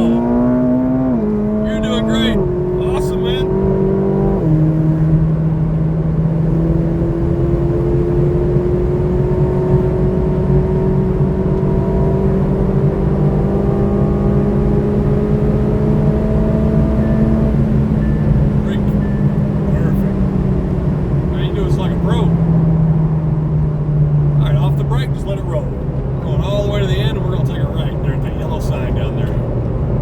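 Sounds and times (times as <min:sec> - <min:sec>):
car engine accelerating from cabin: 0:00.0 - 0:30.0.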